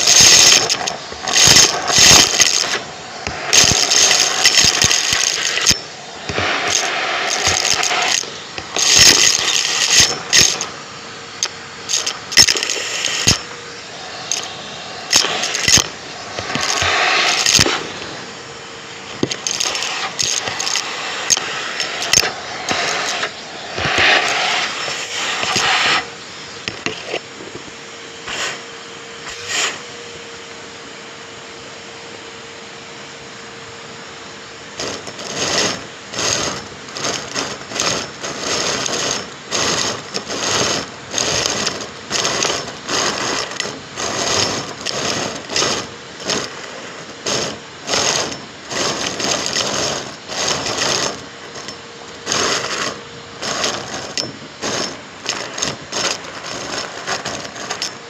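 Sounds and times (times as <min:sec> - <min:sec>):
scraping and rattling on vacuum cleaner: 0:00.0 - 0:30.4, 0:34.7 - 0:58.0
faint steady hum: 0:00.0 - 0:58.0.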